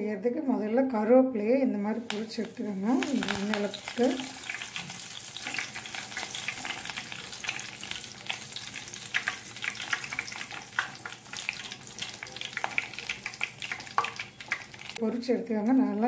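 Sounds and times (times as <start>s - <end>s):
crackling pops: 1.9s - 15.0s
leaves sizzling in hot oil: 1.9s - 15.0s.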